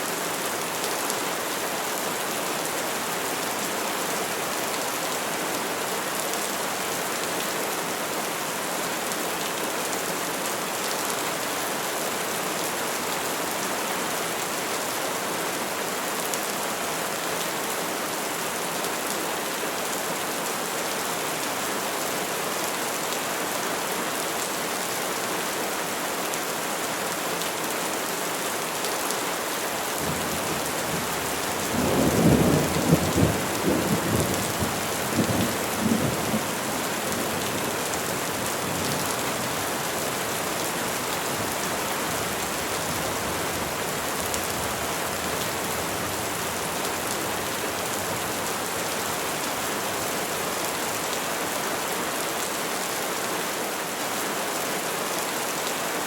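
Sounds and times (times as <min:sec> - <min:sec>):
rain falling on trees: 0:00.0 - 0:56.0.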